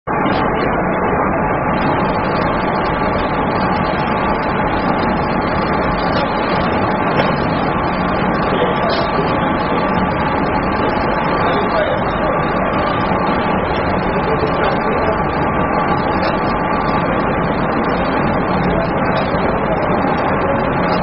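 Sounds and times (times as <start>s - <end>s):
loud steady machine noise: 0.1s - 21.0s.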